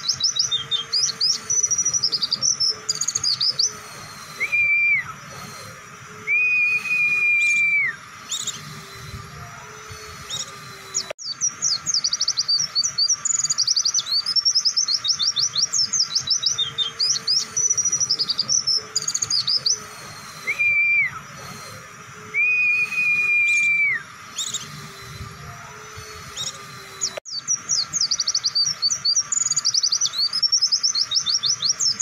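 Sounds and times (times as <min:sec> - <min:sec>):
bird chirping: 0:00.0 - 0:32.0
bird whistled notes: 0:00.0 - 0:32.0.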